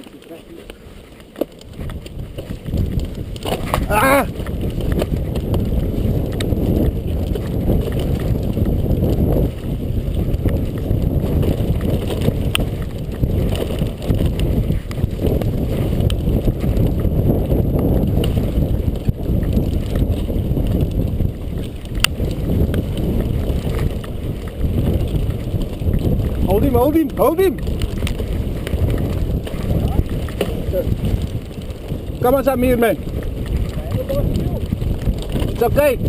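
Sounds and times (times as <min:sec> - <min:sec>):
bike rolling on dirt trail: 0:00.0 - 0:36.0
sharp ticks from bike: 0:00.0 - 0:36.0
wind buffeting microphone: 0:00.0 - 0:36.0.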